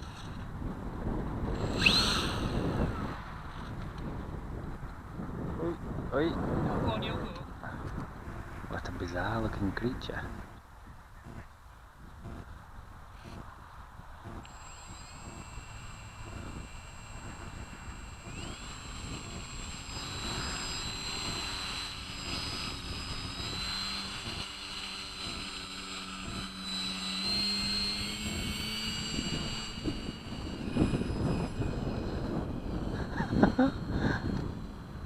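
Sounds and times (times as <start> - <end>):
model plane engine buzzing: 0.0 - 35.0
wind on microphone: 0.0 - 35.0.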